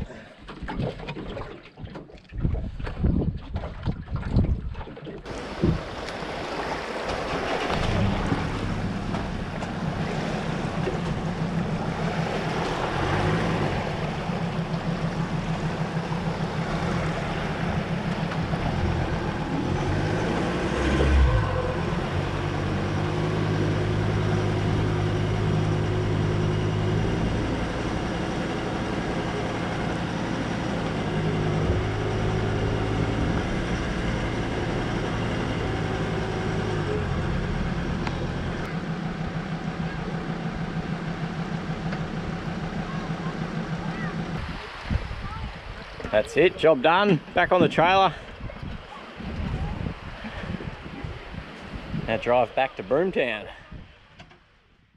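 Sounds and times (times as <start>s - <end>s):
vehicle engine running: 5.3s - 54.5s.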